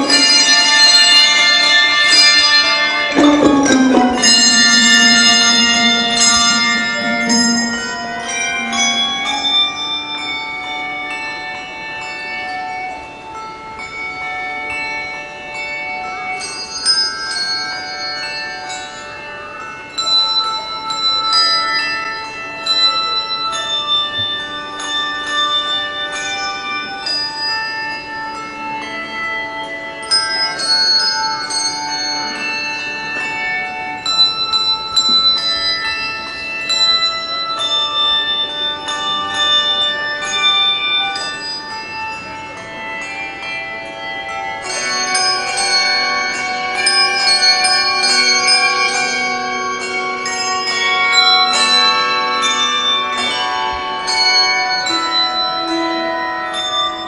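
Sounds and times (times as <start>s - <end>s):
handbell ensemble playing melody: 0.0s - 57.0s.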